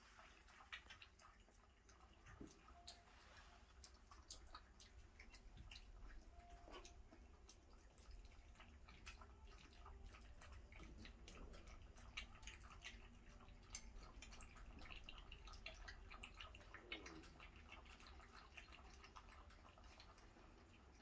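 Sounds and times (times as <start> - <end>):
puppies lapping milk: 0.0 - 21.0.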